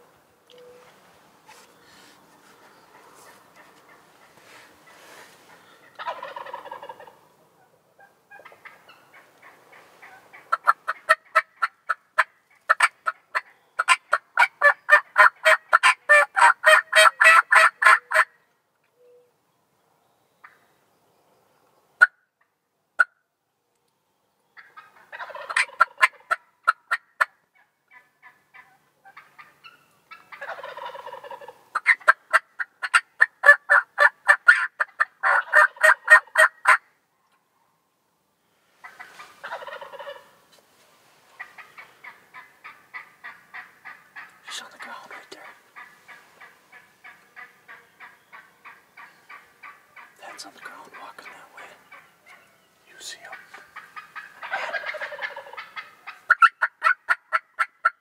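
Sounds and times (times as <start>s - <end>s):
wild turkeys calling: 0.5s - 19.2s, 24.6s - 36.9s, 38.8s - 40.4s, 41.3s - 58.0s.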